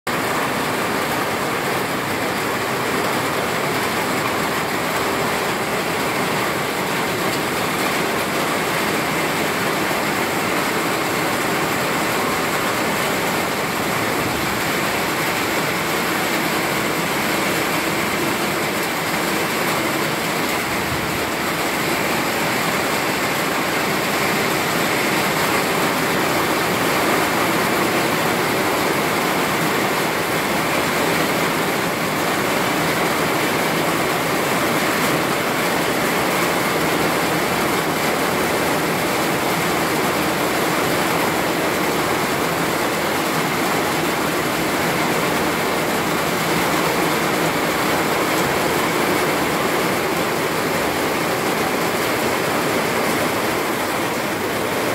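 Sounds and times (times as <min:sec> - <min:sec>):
heavy rain on foliage: 0:00.1 - 0:54.9.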